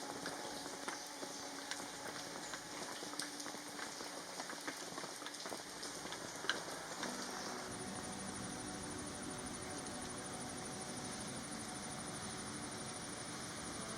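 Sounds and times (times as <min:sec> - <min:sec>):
heavy rain hissing: 0:00.0 - 0:13.9
raindrops pattering: 0:00.0 - 0:13.9.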